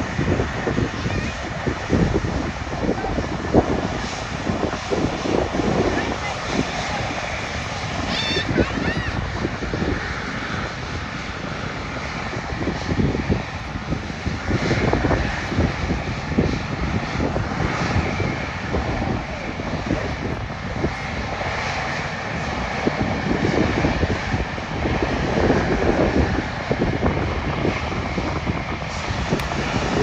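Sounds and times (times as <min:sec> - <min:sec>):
airliner engines running loud: 0:00.0 - 0:30.0.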